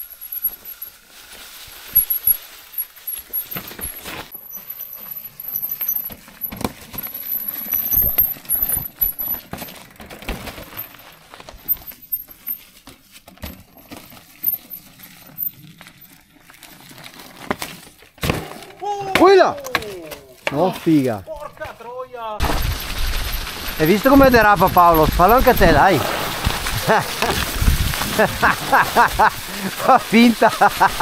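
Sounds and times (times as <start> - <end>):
mountain bike rattling over rocks: 0.0 - 31.0.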